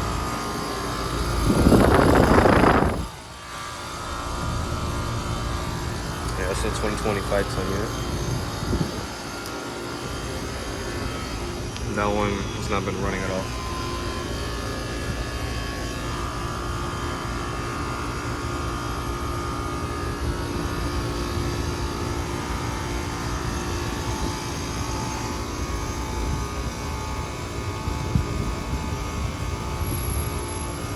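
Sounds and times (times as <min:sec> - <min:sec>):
air conditioner compressor humming: 0:00.0 - 0:30.9.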